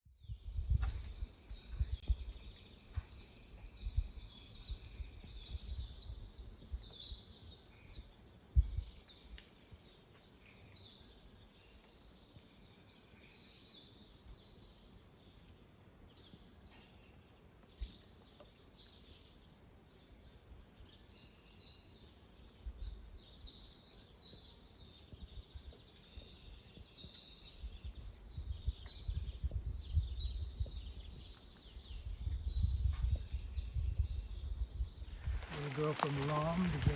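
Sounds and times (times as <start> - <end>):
birds chirping and trilling: 0.2 - 36.9.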